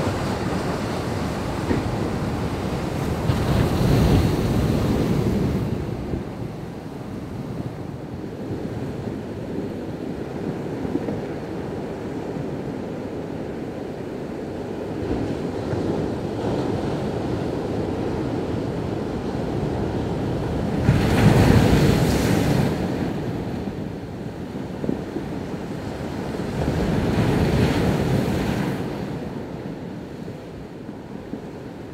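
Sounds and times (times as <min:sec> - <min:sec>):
surf washing up a cobble beach: 0:00.0 - 0:31.9.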